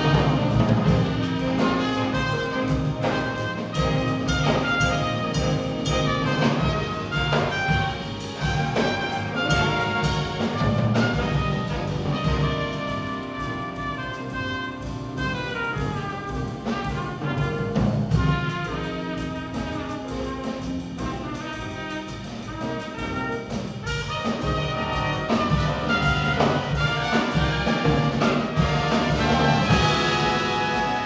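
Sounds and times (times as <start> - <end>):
bass: 0.0 - 31.0
brass section: 0.0 - 31.0
drum kit: 0.0 - 31.0
piano: 0.0 - 31.0.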